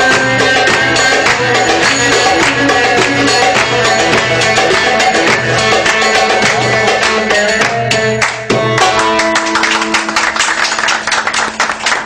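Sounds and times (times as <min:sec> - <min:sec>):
fast hand drum rhythm: 0:00.0 - 0:10.2
electric saz melody: 0:00.0 - 0:12.0.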